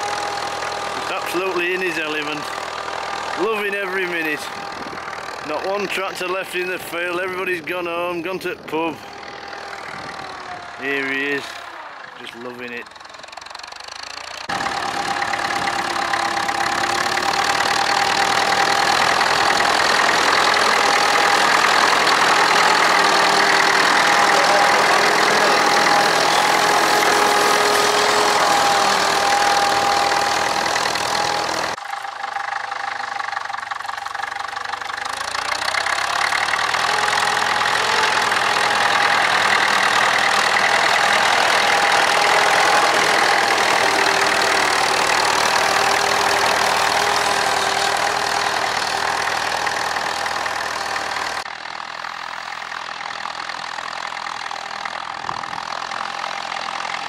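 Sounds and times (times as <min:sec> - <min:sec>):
tractor engine labouring: 0:00.0 - 0:57.0.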